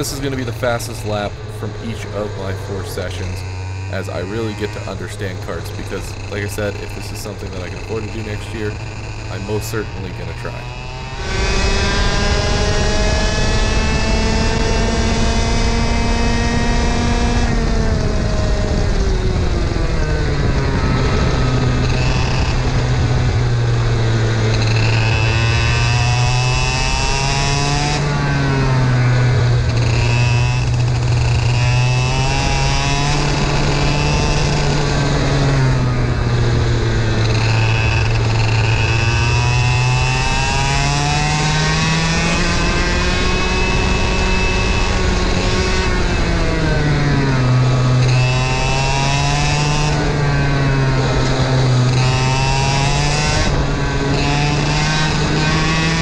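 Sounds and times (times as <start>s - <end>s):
two-stroke kart engine racing: 0.0s - 56.0s.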